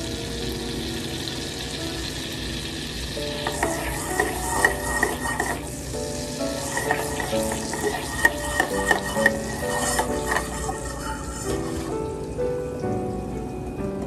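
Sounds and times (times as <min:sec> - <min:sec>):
butter sizzling in saucepan: 0:00.0 - 0:12.9
faint background music: 0:00.0 - 0:14.0.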